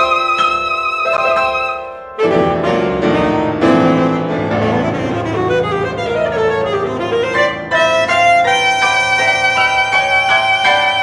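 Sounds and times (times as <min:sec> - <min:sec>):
chamber music with piano: 0:00.0 - 0:11.0.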